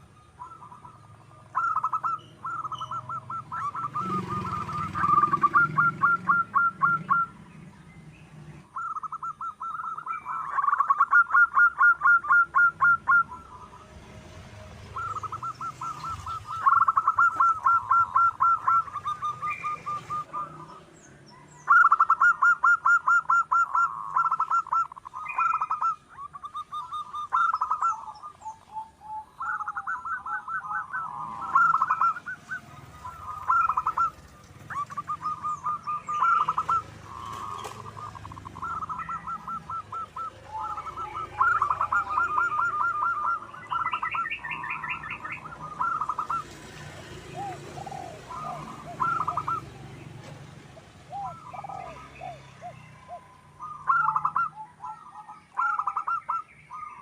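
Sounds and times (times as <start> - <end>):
dove cooing: 0.0 - 57.0
small birds chirping: 0.0 - 57.0.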